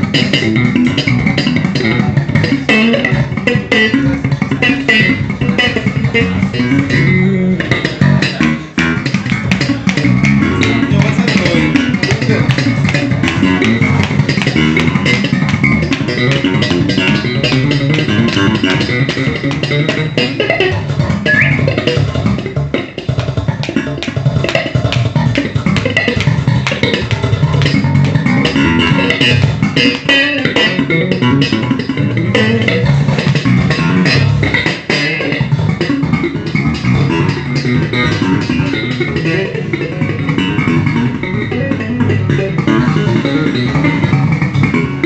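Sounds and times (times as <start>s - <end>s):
slap bass guitar: 0.0s - 45.0s.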